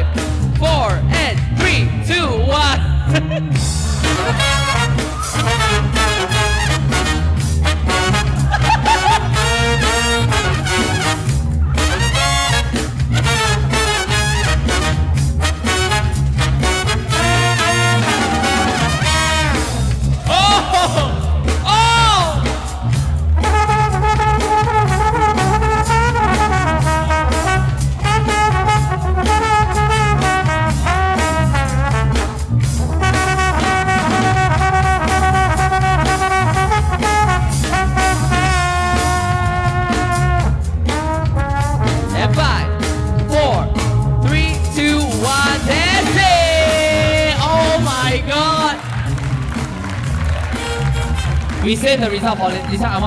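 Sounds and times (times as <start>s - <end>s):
brass-led dance music: 0.0s - 53.0s.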